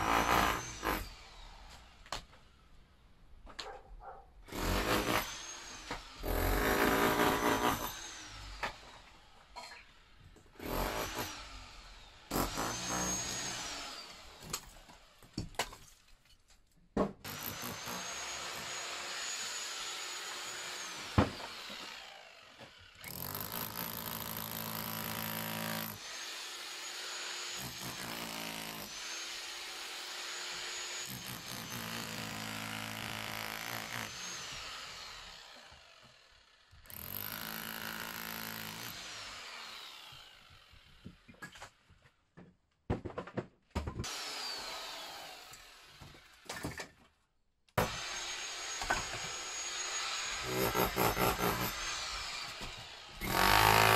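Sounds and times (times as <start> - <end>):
power saw cutting wood: 0.0 - 2.2, 4.5 - 9.5, 10.5 - 15.3, 17.3 - 41.2, 44.0 - 46.7, 47.8 - 53.9.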